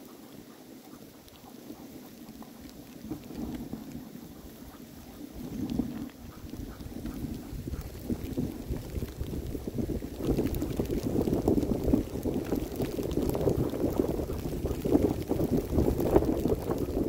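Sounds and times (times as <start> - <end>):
sled runners crunching snow: 0.0 - 17.0.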